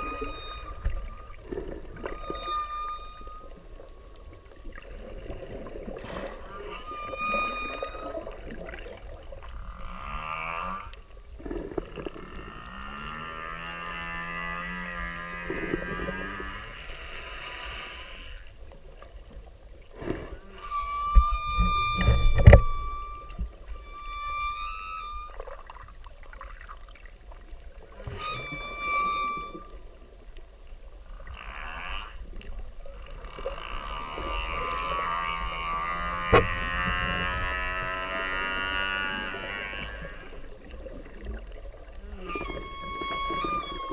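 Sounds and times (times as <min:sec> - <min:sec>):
whale calls: 0:00.0 - 0:19.0, 0:20.0 - 0:30.3, 0:30.9 - 0:43.9
low underwater rumble: 0:00.0 - 0:43.9.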